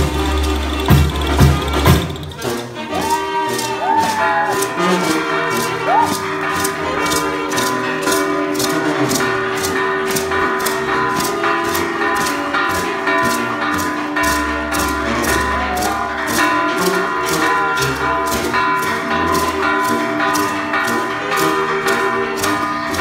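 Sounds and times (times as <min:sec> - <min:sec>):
steady rattling beat: 0:00.0 - 0:23.0
sustained melody with sliding notes: 0:00.0 - 0:23.0.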